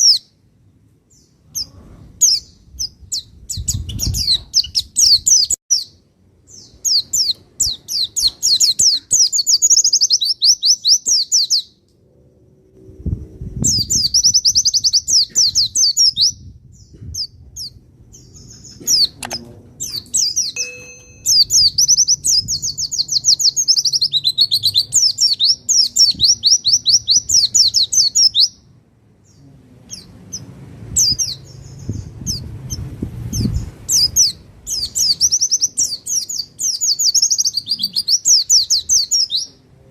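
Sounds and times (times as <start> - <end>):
bird singing high trills: 1.2 - 11.8, 13.6 - 19.2, 19.8 - 28.7, 29.3 - 39.6.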